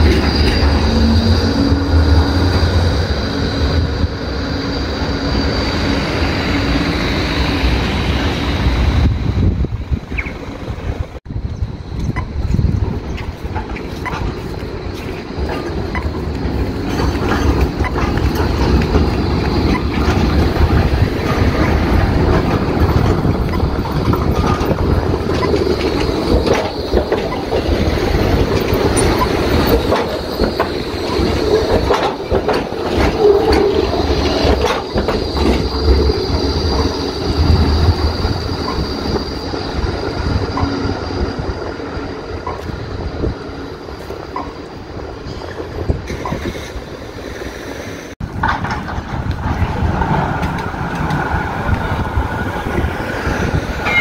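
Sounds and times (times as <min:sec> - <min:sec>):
tram wheels rumbling over rails: 0:00.0 - 0:54.0.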